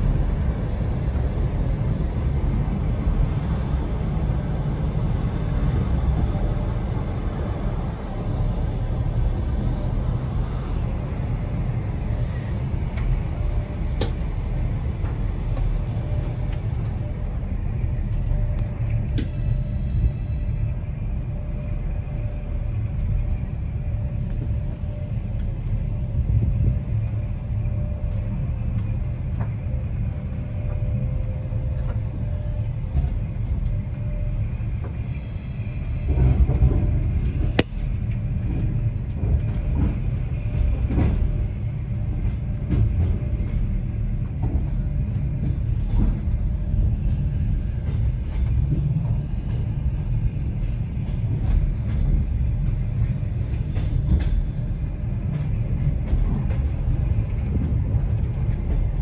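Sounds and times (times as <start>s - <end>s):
faint steady whine: 0.0s - 59.0s.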